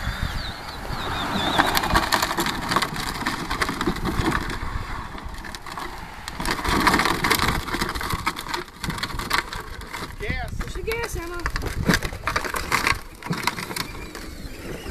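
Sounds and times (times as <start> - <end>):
plastic wheels crunching over gravel: 0.0 - 14.9.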